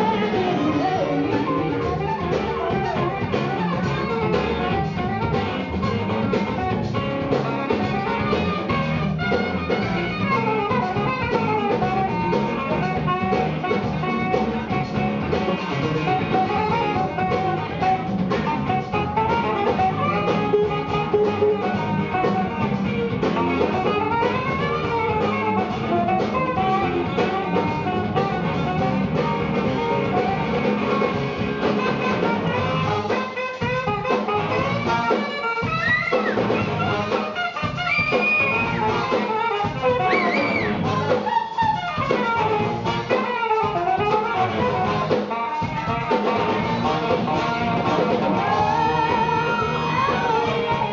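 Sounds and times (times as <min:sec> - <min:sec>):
drum kit: 0:00.0 - 0:50.9
guitar: 0:00.0 - 0:50.9
horn section playing: 0:00.0 - 0:50.9.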